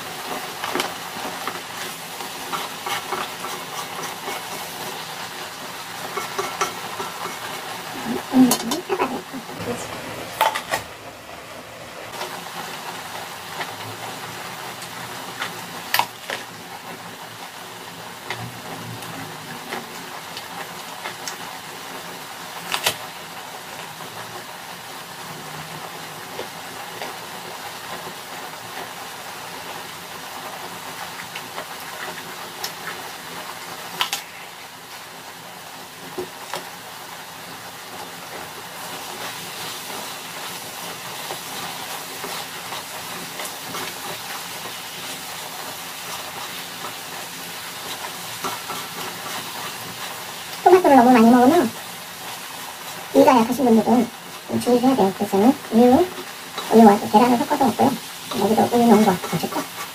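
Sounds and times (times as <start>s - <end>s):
eggs sizzling in a frying pan: 0.0s - 59.9s.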